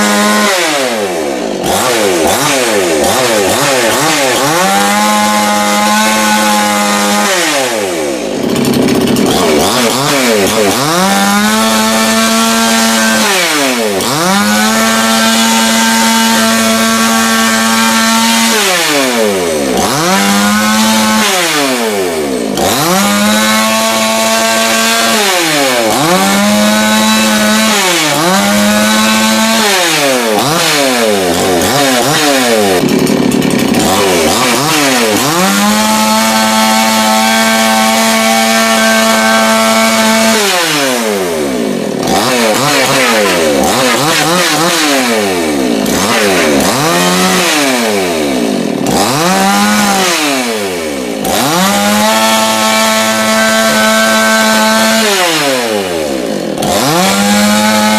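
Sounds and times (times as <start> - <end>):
chainsaw engine revving: 0.0 - 57.9.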